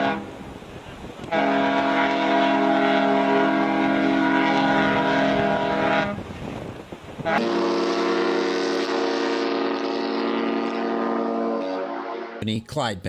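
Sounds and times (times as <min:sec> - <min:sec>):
deep ship's horn blast: 0:00.0 - 0:06.6, 0:07.2 - 0:12.4.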